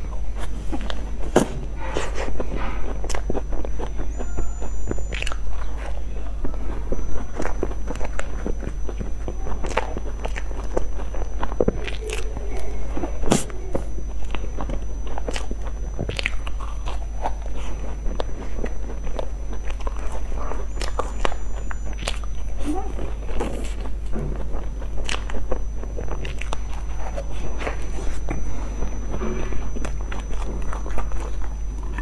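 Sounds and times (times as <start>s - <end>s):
crisp crunching and chewing: 0.0s - 32.0s
crunching bite: 0.0s - 32.0s.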